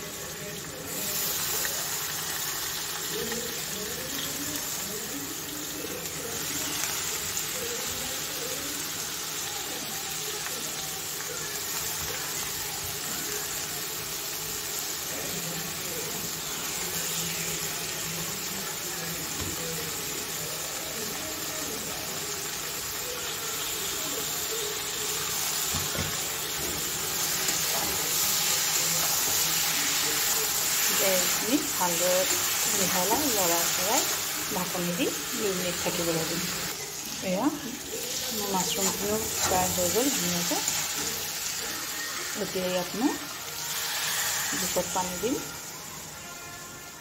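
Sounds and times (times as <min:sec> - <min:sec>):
mushrooms frying in oil: 0:00.0 - 0:47.0.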